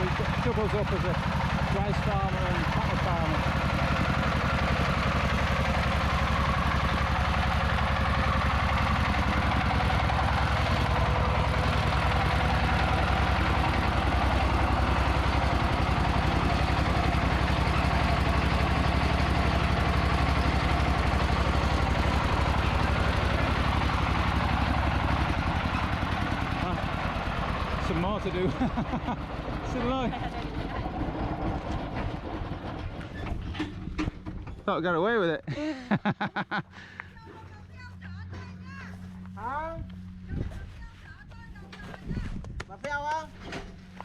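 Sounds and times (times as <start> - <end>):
truck engine running: 0.0 - 44.0.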